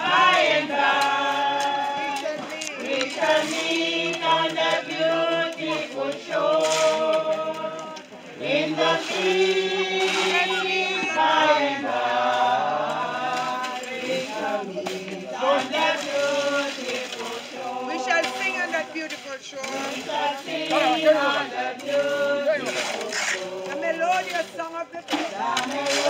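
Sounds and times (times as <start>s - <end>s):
group singing a hymn: 0.0s - 26.0s.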